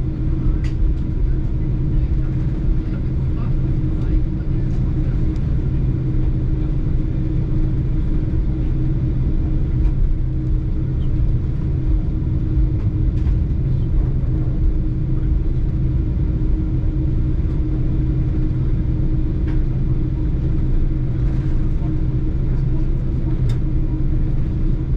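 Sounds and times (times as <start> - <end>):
jet engines running: 0.0 - 24.9.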